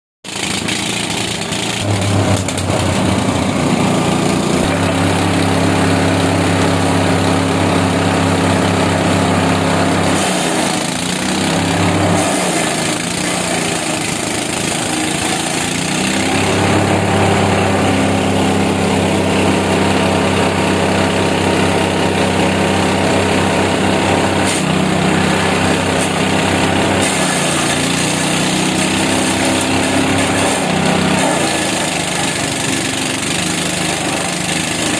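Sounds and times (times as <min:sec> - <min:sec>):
wood chipper engine running: 0:00.2 - 0:34.9.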